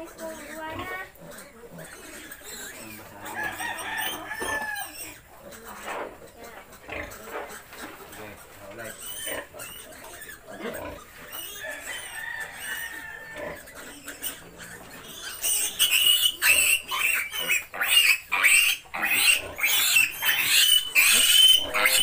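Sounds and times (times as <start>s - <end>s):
piglet squealing: 0.0s - 5.7s, 8.2s - 22.0s.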